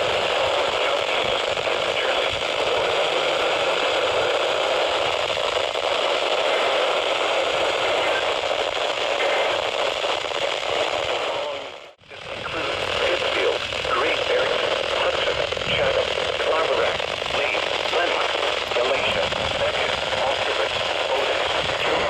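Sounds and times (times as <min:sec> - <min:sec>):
radio static hiss and crackle: 0:00.0 - 0:22.0.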